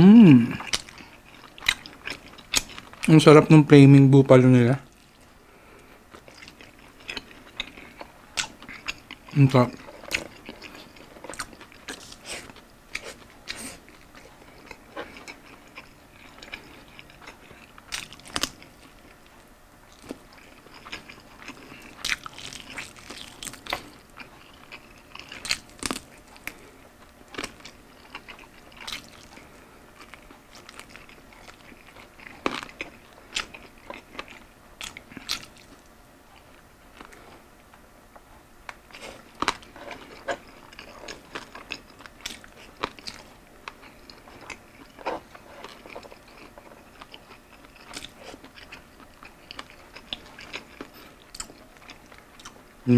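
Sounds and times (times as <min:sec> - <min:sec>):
person chewing crunchy food: 0:00.0 - 0:03.2, 0:04.9 - 0:37.6, 0:38.6 - 0:52.8.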